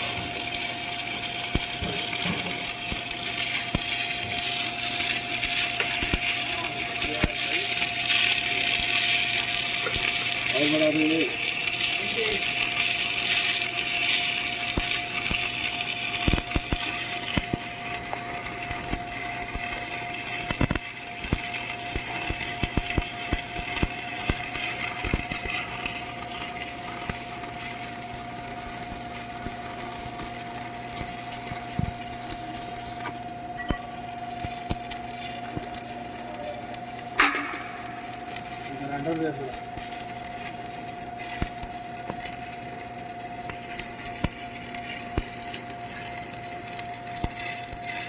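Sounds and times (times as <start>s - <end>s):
arc welding frying hiss: 0.0s - 48.0s
sharp pops and crackles: 0.0s - 48.0s.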